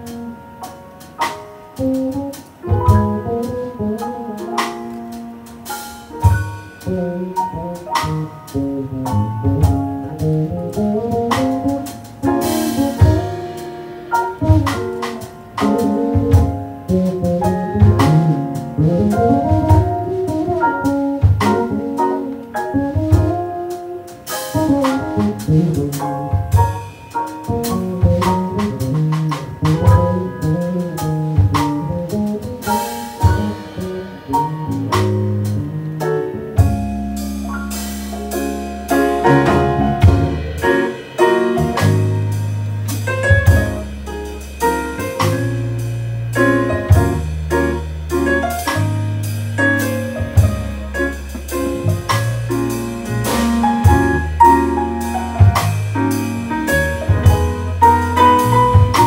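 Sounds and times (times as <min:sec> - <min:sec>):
jazz band playing: 0:00.0 - 0:59.0.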